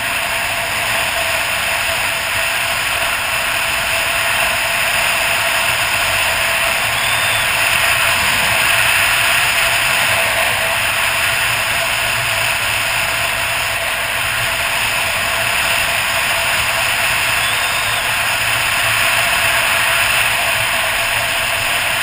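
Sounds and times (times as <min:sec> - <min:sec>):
motorcycle engine running: 0:00.0 - 0:22.0
wind rush over microphone: 0:03.9 - 0:22.0.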